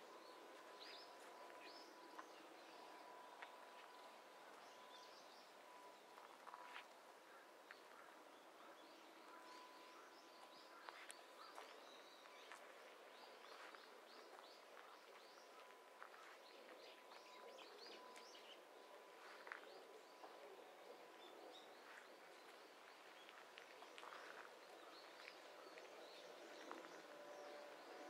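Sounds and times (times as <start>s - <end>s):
faint thin steady tone: 0.0s - 28.0s
small birds chirping: 0.0s - 28.0s.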